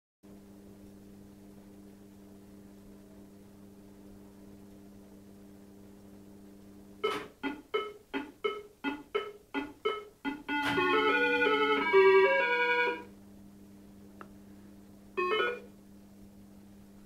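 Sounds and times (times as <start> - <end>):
electrical hum: 0.3 - 17.0.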